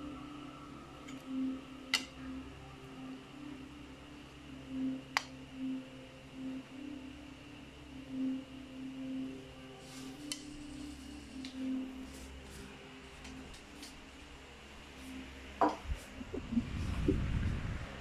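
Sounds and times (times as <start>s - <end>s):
wavering background hum: 0.0s - 18.0s.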